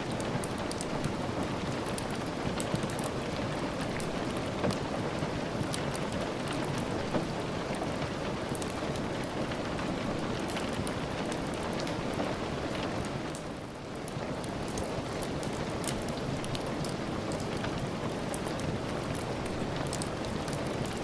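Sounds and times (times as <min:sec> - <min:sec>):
steady rain falling: 0:00.0 - 0:21.0
wood fire crackling: 0:00.0 - 0:21.0.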